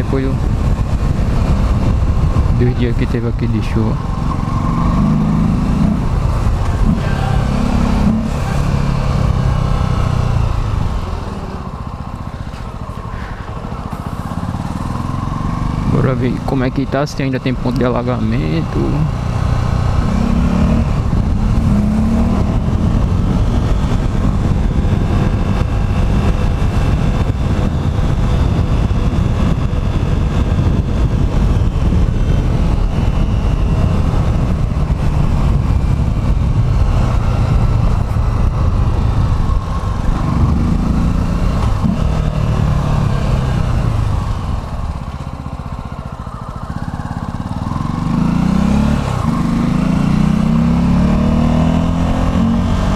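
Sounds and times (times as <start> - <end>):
heavy low rumble: 0.0 - 52.9
motorcycle engine accelerating: 0.0 - 52.9.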